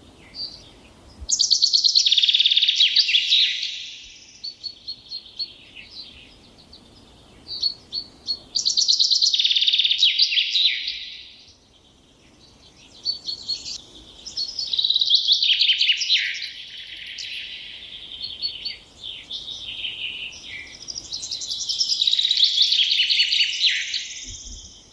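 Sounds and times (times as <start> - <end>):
songbird trilling and chirping: 0.2 - 24.9.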